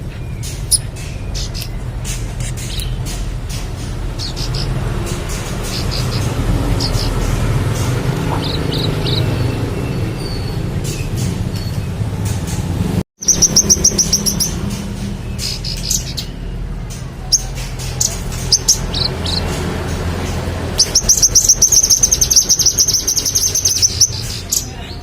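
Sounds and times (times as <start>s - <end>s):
songbird trilling: 0.0s - 3.1s, 4.2s - 11.7s, 13.2s - 25.0s
bird chirps: 0.0s - 3.2s, 4.1s - 12.1s, 13.2s - 25.0s.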